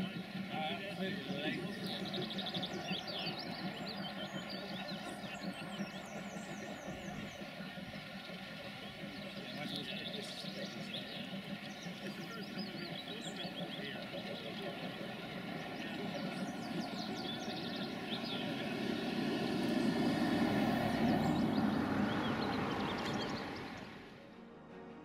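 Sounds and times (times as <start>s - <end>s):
birds chirping: 0.0s - 24.3s
steam train rumbling: 0.0s - 24.3s.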